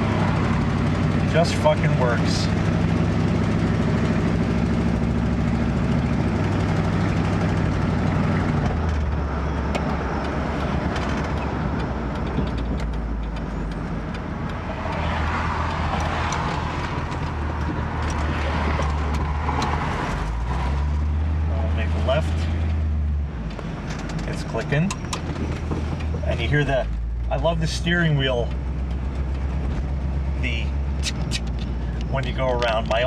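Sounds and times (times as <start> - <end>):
car engine running: 0.0 - 33.0
road noise: 0.0 - 33.0.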